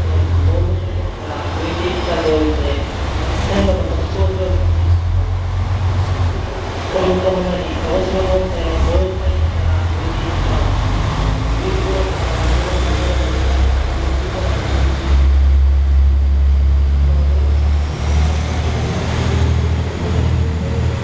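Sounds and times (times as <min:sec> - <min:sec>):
train diesel engine drone: 0:00.0 - 0:21.0.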